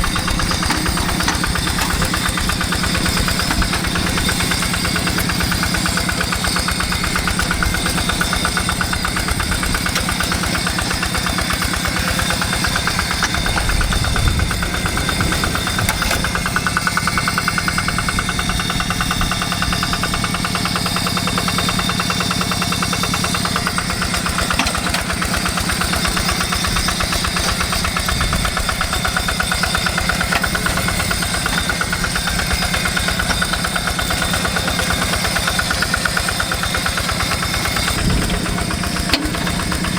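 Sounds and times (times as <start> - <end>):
diesel engine knocking steadily: 0.0 - 39.9.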